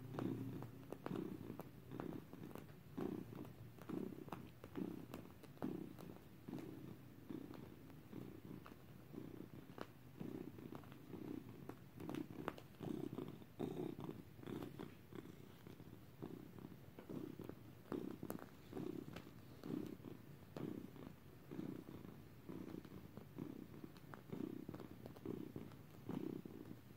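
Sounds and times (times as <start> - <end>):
cat purring: 0.0 - 26.9
faint clicks and rustles: 0.0 - 26.9.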